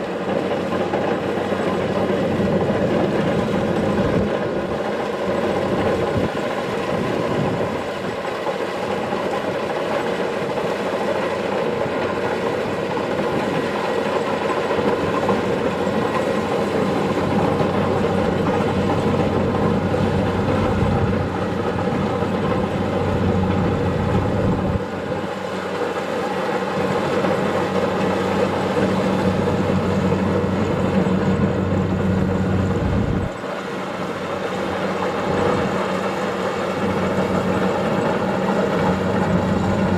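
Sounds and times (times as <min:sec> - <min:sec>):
diesel engine running under load: 0:00.0 - 0:39.9
machinery whirring and rattling: 0:00.0 - 0:39.9.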